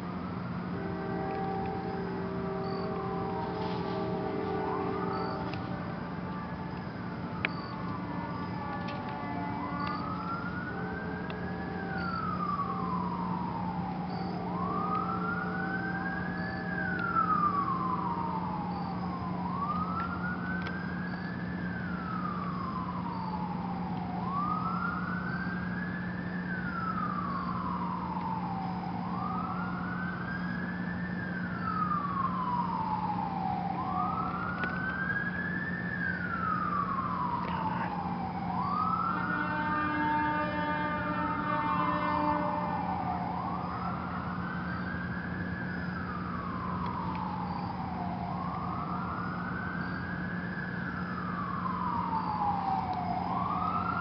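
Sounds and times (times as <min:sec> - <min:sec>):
siren wailing: 0:00.0 - 0:54.0
steady low hum: 0:00.0 - 0:54.0.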